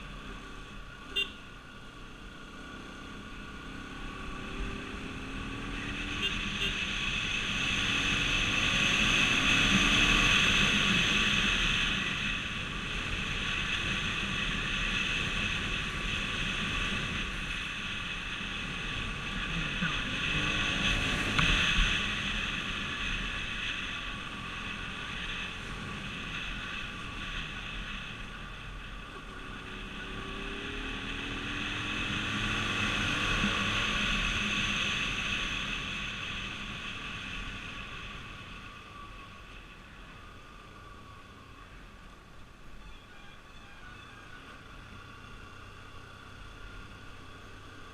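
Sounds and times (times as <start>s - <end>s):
road and tyre noise: 0.0s - 47.9s
vehicles passing by: 0.0s - 47.9s.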